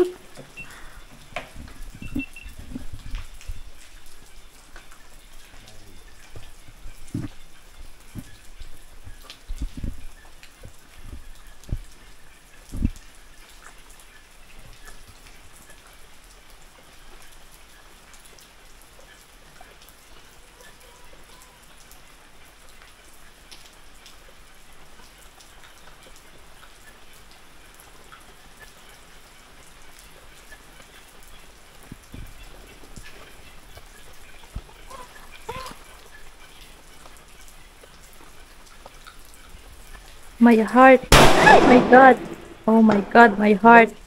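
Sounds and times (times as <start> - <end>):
small drip ticks: 0.0 - 40.9
light rain pattering: 0.0 - 44.0.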